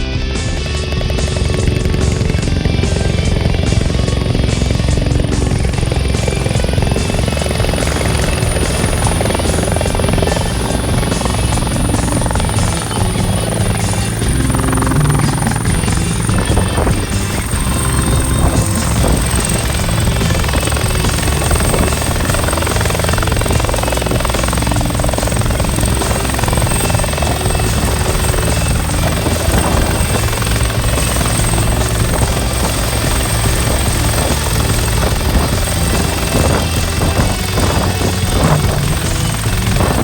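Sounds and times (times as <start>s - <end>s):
helicopter rotor and engines: 0.0s - 40.0s.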